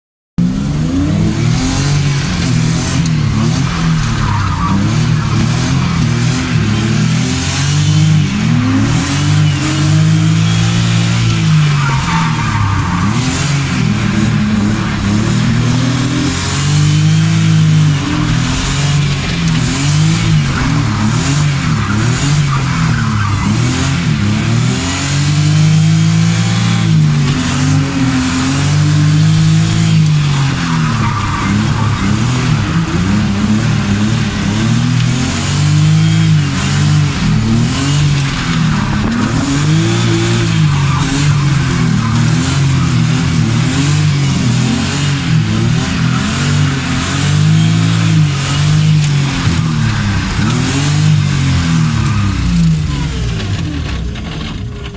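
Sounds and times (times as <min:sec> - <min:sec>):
car engine revving: 0:00.4 - 0:54.9
tyres squealing: 0:01.0 - 0:52.8.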